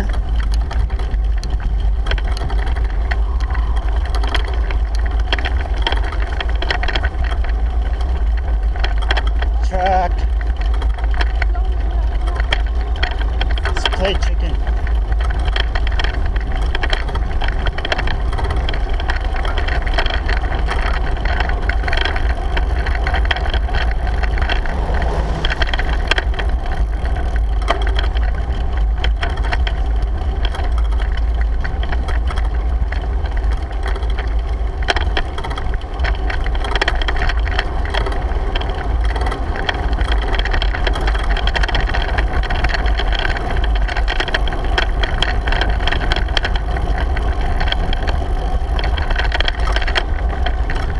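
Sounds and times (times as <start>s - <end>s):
bicycle clicks and rattles: 0.0s - 50.9s
wind buffeting microphone: 0.0s - 50.9s.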